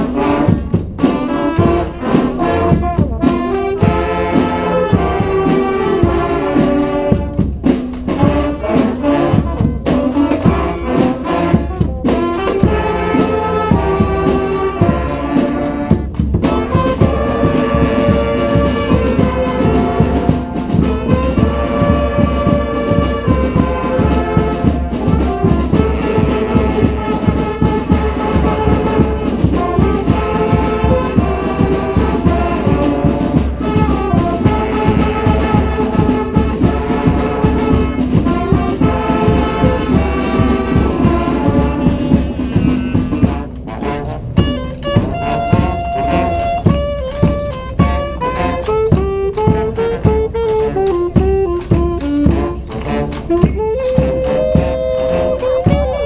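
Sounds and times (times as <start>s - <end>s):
brass band playing cumbia: 0.0s - 56.0s.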